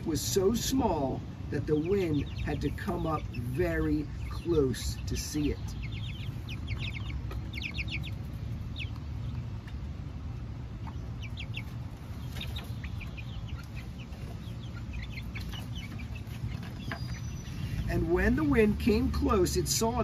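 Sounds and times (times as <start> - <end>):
hens clucking: 0.0 - 20.0
low background rumble: 0.0 - 20.0.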